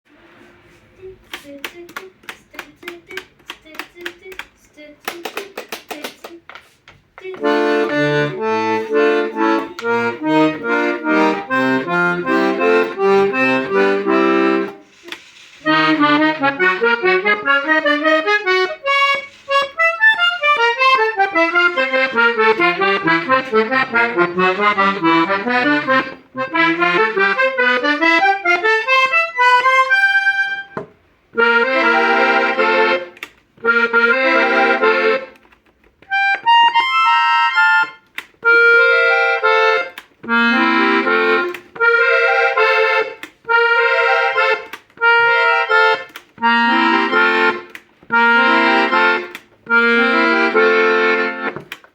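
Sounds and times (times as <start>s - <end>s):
accordion chords: 0.1s - 6.5s, 7.1s - 51.9s
accordion scale notes: 7.2s - 51.9s.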